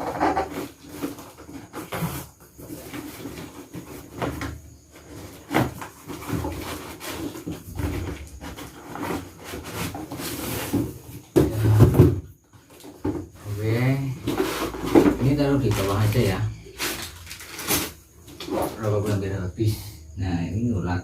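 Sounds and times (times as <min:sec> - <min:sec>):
cardboard boxes rustling: 0:00.0 - 0:19.1.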